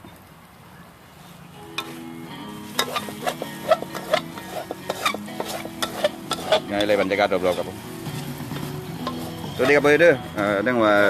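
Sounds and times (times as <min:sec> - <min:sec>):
food sizzling: 0:01.7 - 0:11.0
metal spatula scraping wok: 0:01.8 - 0:11.0.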